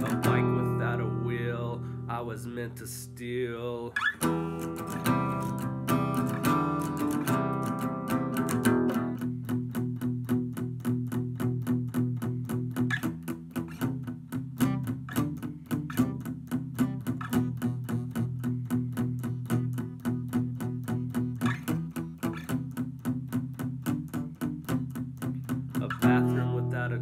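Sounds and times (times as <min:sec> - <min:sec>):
acoustic guitar picking: 0:00.0 - 0:27.0.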